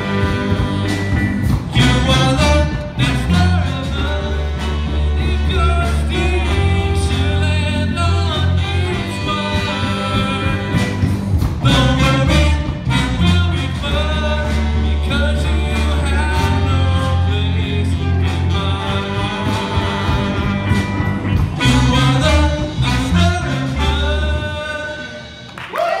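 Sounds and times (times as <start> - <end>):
live band playing: 0.0 - 26.0.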